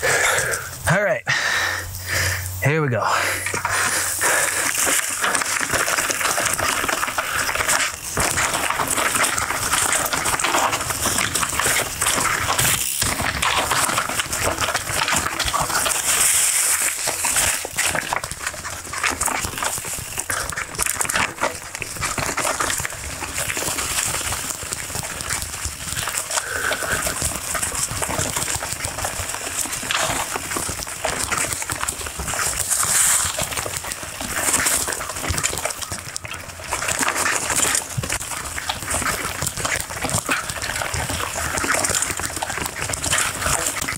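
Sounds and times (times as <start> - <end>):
bike rattling over bumps: 0.0 - 2.3, 3.0 - 43.9
tyres crunching through leaves: 1.9 - 43.9.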